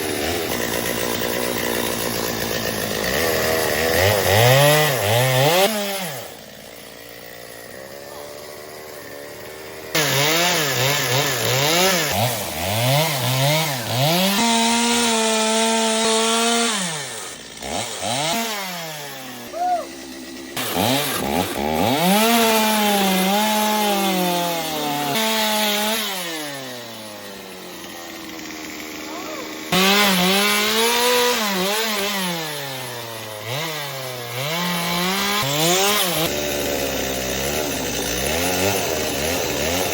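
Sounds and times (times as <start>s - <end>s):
chainsaw revving and cutting wood: 0.0s - 39.9s.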